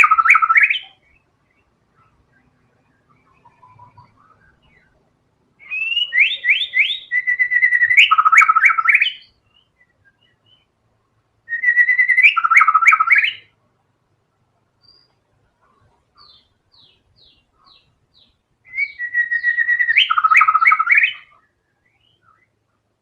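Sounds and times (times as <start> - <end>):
bird singing whistled notes: 0.0 - 5.0, 5.6 - 10.8, 11.4 - 13.5, 14.8 - 15.2, 16.2 - 22.6.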